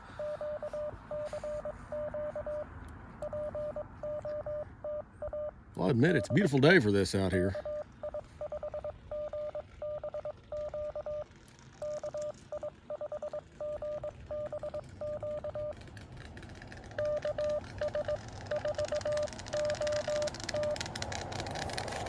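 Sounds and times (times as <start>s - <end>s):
morse code tone: 0.0s - 15.8s, 17.0s - 20.9s.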